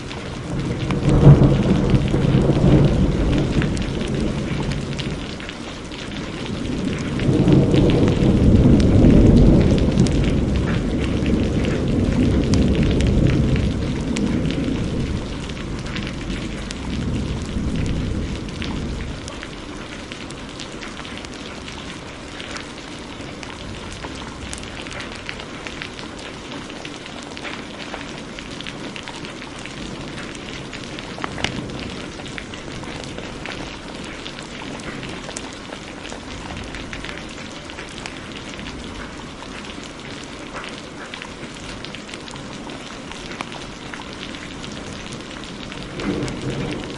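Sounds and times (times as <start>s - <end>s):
thunder rumbling: 0.0s - 26.7s, 27.4s - 46.9s
heavy rain: 0.0s - 46.9s
wood fire crackling: 0.0s - 46.9s.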